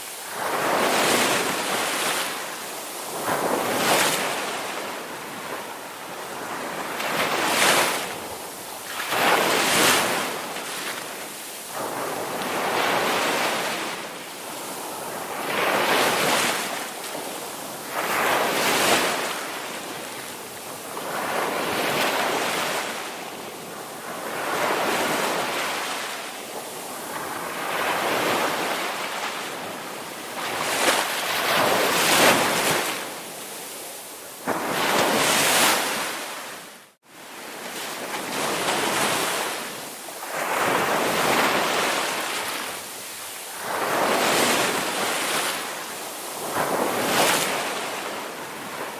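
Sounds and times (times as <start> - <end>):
ocean surf breaking on beach: 0.0 - 48.9.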